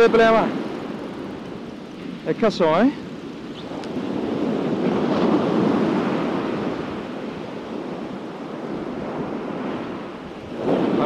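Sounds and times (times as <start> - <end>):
surf washing up beach: 0.0 - 11.0.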